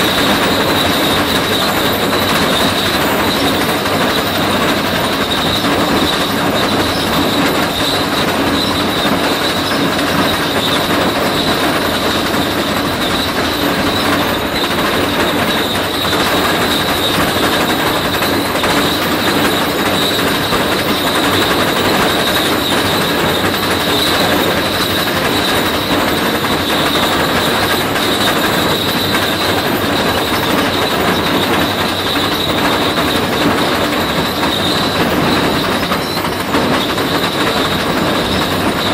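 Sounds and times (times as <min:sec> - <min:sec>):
high-pitched metallic whine: 0:00.0 - 0:38.9
rock saw grinding clatter: 0:00.0 - 0:38.9.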